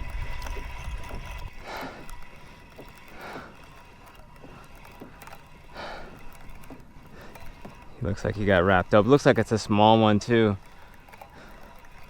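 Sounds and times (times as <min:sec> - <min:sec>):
fishing reel clicking: 0:00.0 - 0:12.0.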